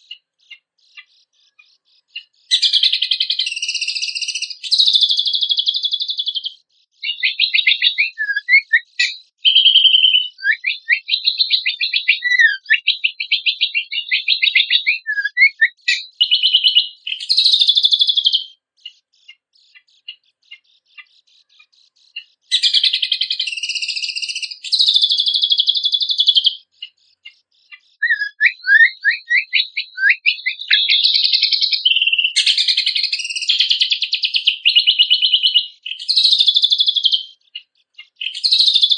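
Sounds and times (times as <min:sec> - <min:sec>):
songbird trilling and chirping: 0:00.0 - 0:38.9.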